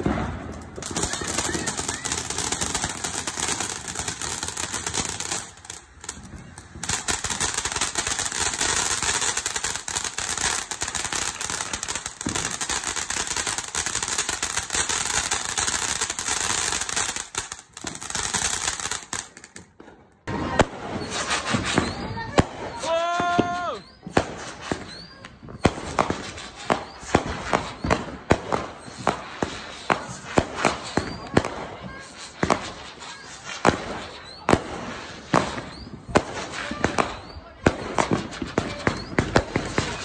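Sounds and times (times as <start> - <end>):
firework fountain crackling hiss: 0.0 - 19.7, 20.6 - 40.0.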